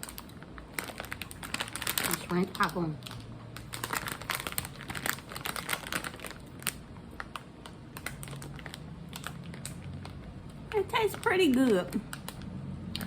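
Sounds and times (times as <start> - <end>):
popcorn bag crinkling: 0.0 - 13.0
popcorn crunching: 0.0 - 13.0.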